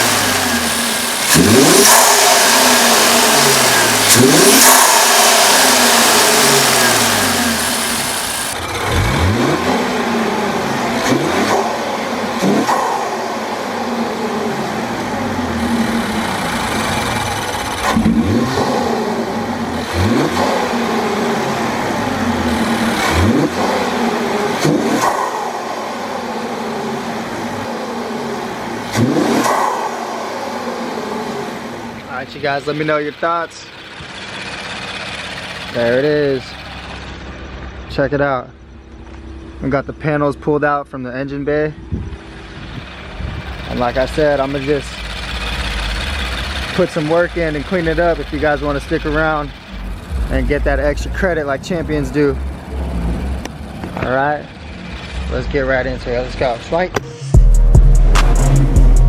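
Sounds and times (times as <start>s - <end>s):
car engine revving: 0.0s - 40.6s, 41.2s - 59.0s.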